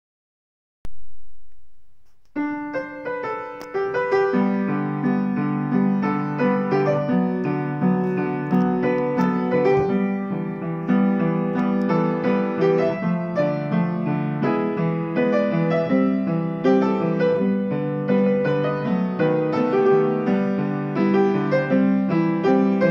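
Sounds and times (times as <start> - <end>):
upright piano playing: 0.9 - 22.9.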